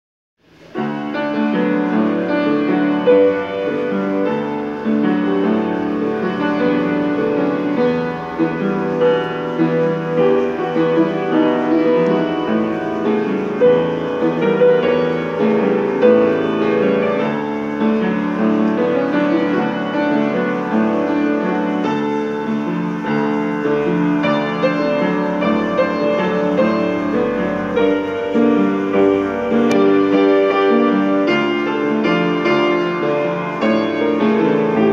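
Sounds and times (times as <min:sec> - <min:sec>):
upright piano playing: 0:00.4 - 0:34.9.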